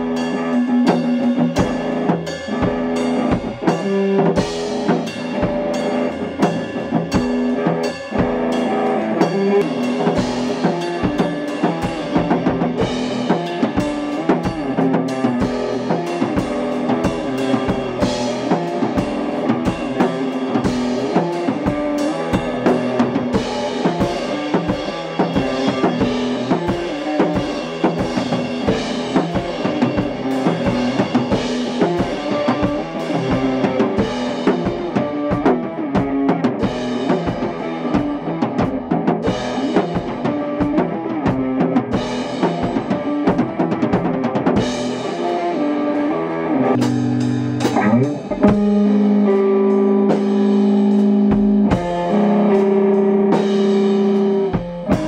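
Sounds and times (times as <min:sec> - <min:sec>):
drum kit: 0:00.0 - 0:55.0
electric guitar through an amp: 0:00.0 - 0:55.0.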